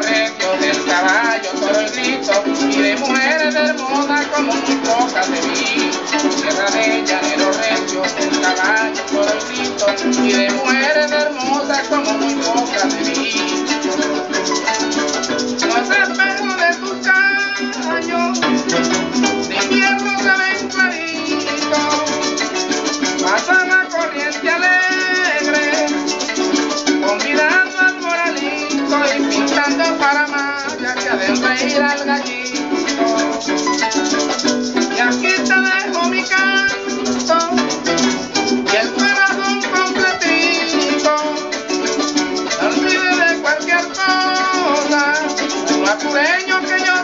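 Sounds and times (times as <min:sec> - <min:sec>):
cuatro strumming: 0:00.0 - 0:47.0
harp playing: 0:00.0 - 0:47.0
man singing: 0:00.0 - 0:47.0
maracas shaking: 0:00.0 - 0:47.0.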